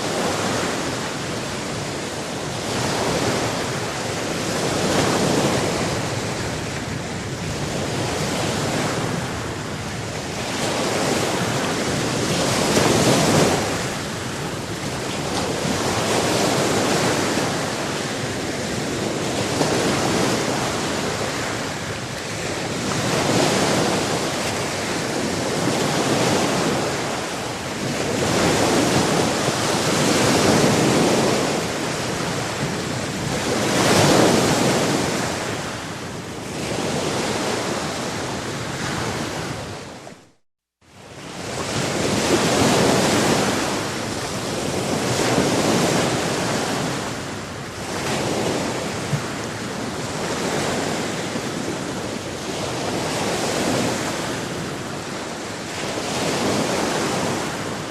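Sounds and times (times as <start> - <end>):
sea waves breaking on shore: 0.0 - 57.9
wind: 0.0 - 57.9.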